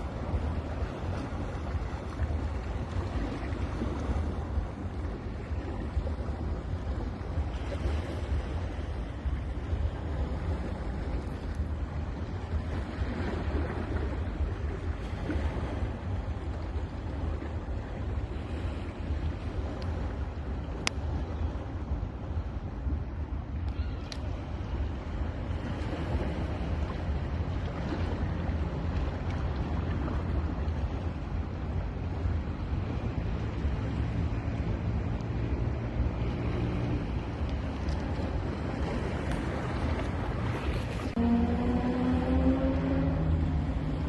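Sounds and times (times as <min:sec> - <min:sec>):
ocean waves on beach: 0:00.0 - 0:44.0
wind rumbling on microphone: 0:00.0 - 0:44.0.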